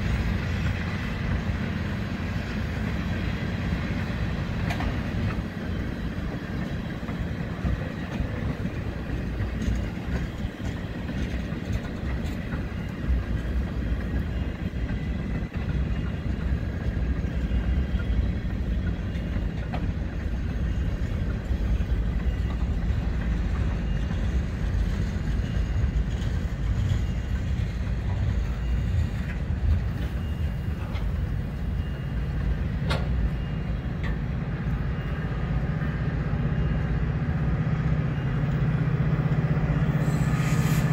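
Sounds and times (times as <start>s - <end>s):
sharp clicks of wheels on rail: 0.0s - 34.9s
freight train rolling past: 0.0s - 40.9s.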